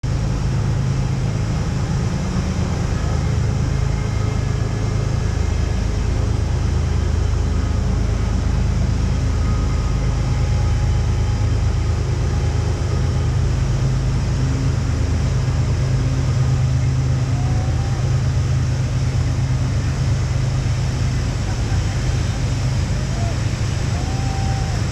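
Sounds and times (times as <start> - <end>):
distant voices: 0.0 - 24.9
whitewater rushing: 0.0 - 24.9.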